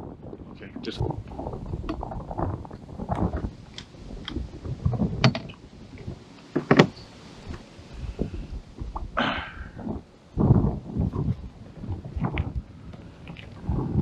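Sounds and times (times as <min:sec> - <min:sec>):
low rustling and bumping: 0:00.0 - 0:14.0.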